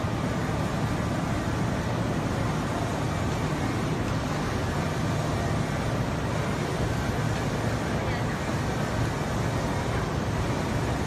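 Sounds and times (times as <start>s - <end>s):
machinery running: 0.0s - 11.0s.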